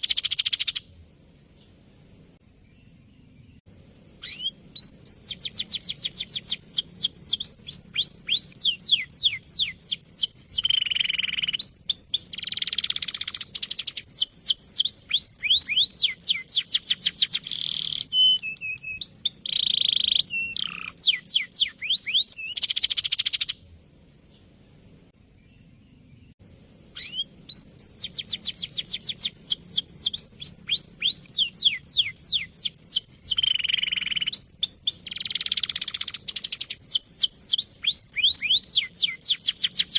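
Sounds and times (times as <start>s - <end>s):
canary singing: 0.0s - 1.7s, 4.1s - 23.6s, 26.8s - 39.9s.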